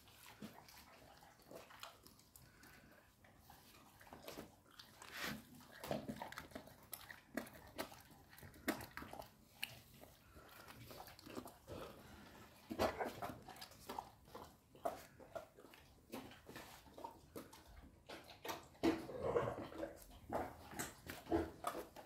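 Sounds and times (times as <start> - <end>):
dog chewing and crunching: 0.0 - 22.0.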